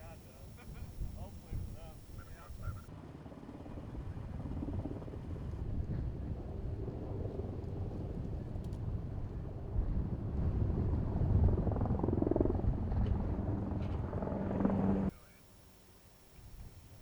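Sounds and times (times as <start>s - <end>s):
helicopter flying: 0.0s - 17.0s.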